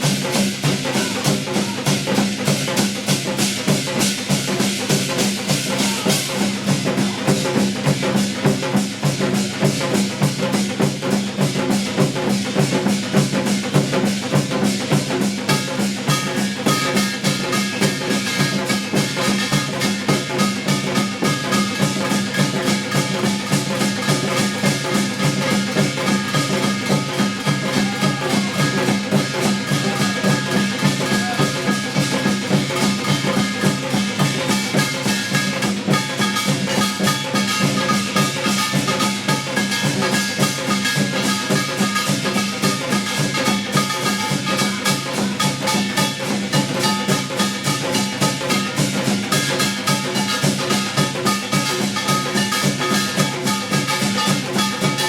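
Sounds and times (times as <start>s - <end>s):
fast driving drumming: 0.0s - 55.0s.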